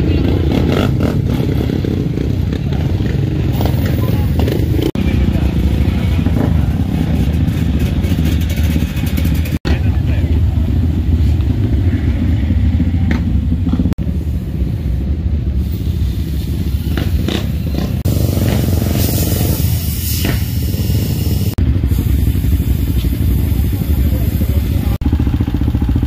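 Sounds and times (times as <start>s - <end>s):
off-road vehicle engines rumbling: 0.0s - 26.0s.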